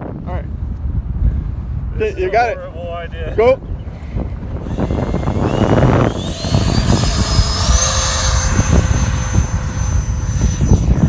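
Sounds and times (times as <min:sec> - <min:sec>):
wind rumble on microphone: 0:00.0 - 0:11.0
electric ducted fans whining: 0:02.1 - 0:11.0.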